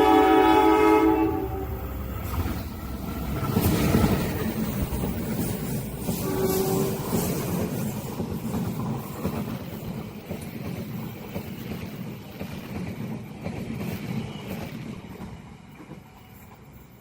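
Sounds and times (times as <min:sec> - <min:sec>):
train rumbling along rails: 0:00.0 - 0:17.0.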